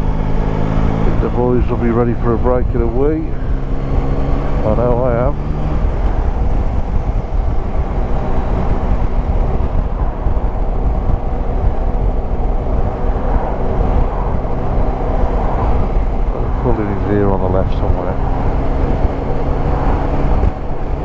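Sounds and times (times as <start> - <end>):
motorcycle engine running: 0.0 - 21.0
road noise: 0.0 - 21.0
wind rush: 0.0 - 21.0.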